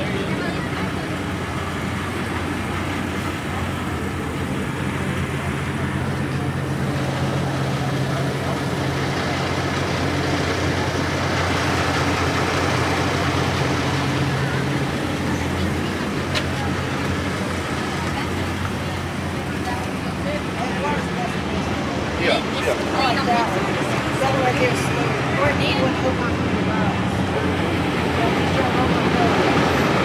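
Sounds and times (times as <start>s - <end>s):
vehicle engine with road noise: 0.0s - 30.0s.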